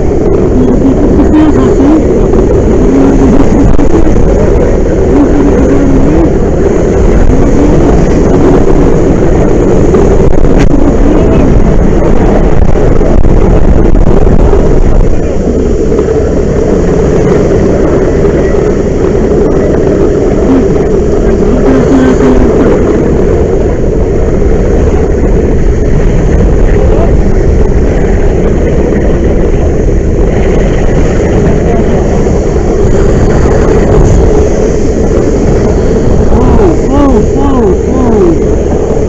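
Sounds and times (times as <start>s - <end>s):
gas flame roaring: 0.0s - 39.0s.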